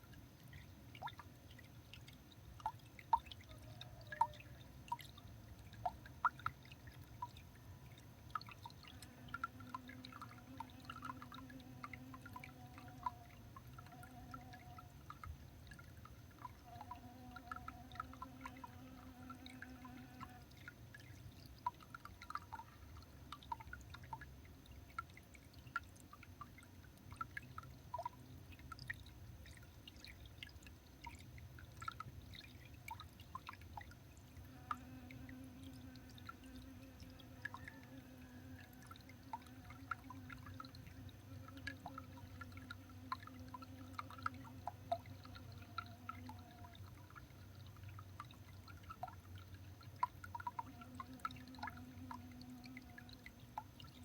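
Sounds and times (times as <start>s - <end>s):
drip-like ticks and taps: 0.0s - 38.0s, 38.6s - 54.0s
low steady hum: 0.0s - 54.0s.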